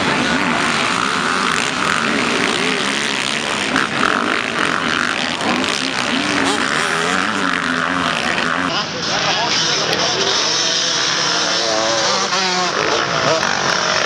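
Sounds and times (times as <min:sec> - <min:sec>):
motocross bikes revving: 0:00.0 - 0:14.0.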